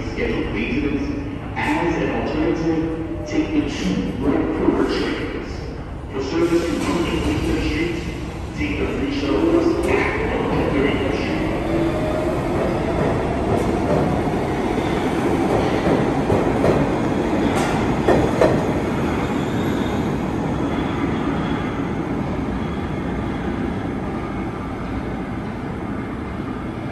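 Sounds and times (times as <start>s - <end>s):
subway train wheels on rails: 0.0s - 26.9s.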